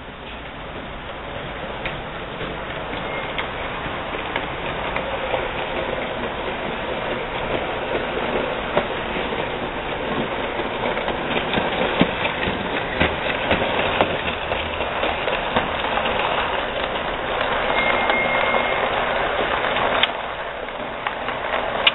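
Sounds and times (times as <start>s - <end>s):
model train whirring: 0.0s - 21.9s
wheels clicking over rail joints: 0.0s - 21.9s.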